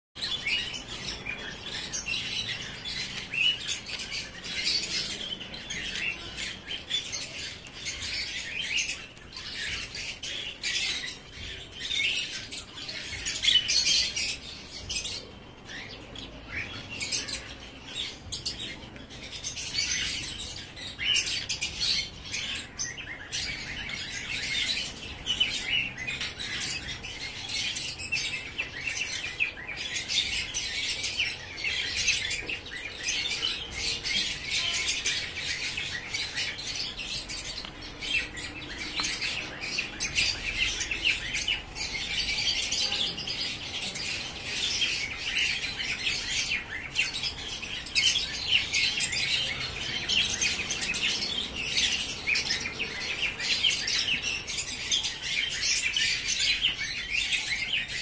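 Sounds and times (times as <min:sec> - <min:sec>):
birds chirping: 0:00.2 - 0:58.0.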